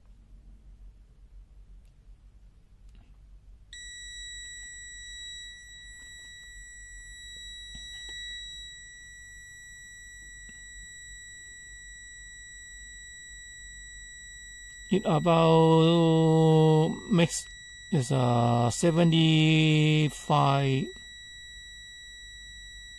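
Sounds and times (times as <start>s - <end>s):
high-pitched multimeter beep: 3.8s - 22.9s.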